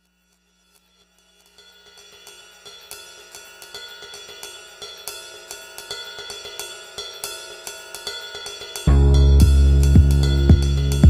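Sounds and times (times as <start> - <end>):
hi-hat and cymbal beat: 2.1 - 11.0.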